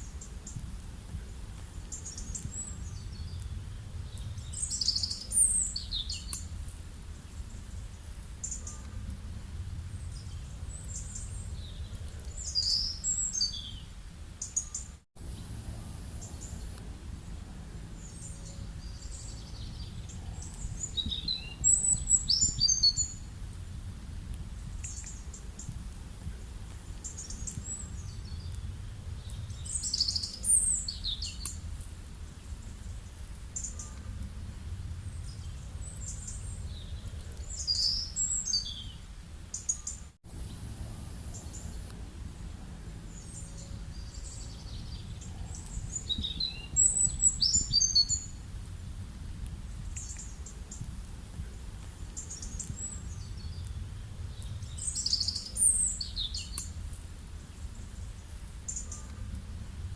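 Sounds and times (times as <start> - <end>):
birds chirping: 0.0 - 23.4, 24.6 - 48.4, 49.7 - 56.8, 57.4 - 59.4
low rural background rumble: 0.0 - 59.9.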